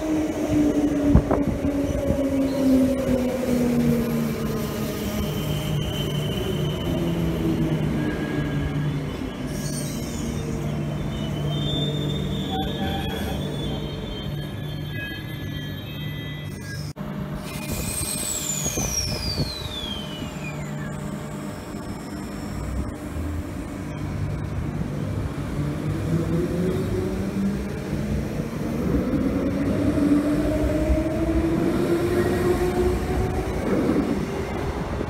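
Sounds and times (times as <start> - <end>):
train rumble: 0.0 - 15.8, 16.9 - 35.0
electric train motor whine: 0.0 - 35.0.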